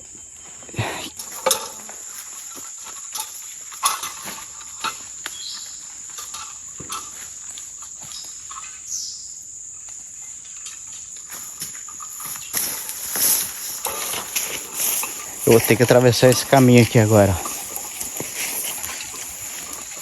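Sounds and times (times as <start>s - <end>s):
insects chorus: 0.0s - 20.0s
leaves and twigs rustling: 0.0s - 20.0s.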